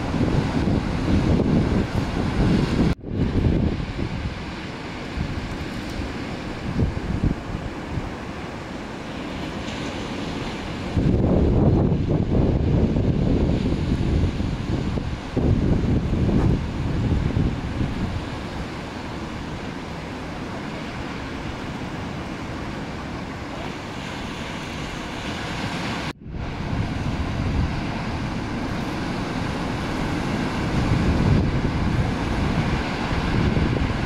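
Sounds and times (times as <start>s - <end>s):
ocean surf breaking: 0.0s - 34.0s
wind rumbling on microphone: 0.0s - 34.0s.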